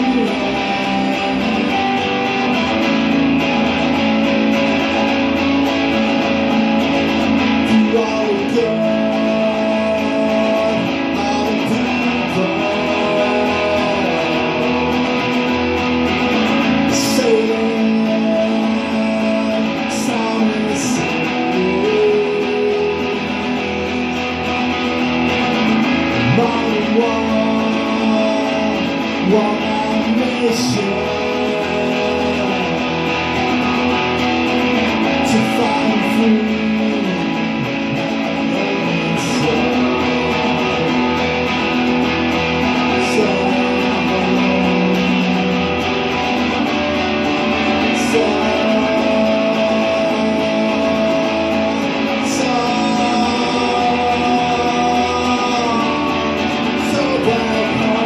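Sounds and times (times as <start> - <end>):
electric guitar playing: 0.0 - 58.0
man singing: 0.0 - 58.0.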